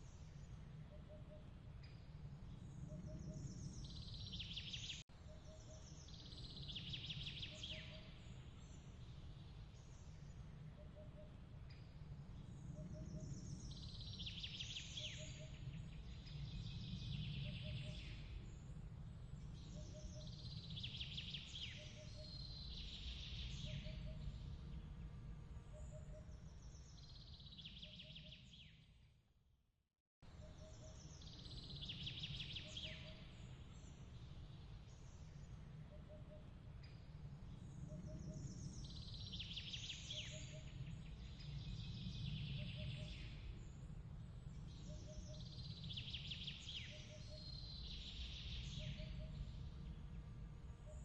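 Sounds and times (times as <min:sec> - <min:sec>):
low breeze rumble: 0:00.0 - 0:05.0, 0:08.0 - 0:27.5, 0:31.0 - 0:51.0.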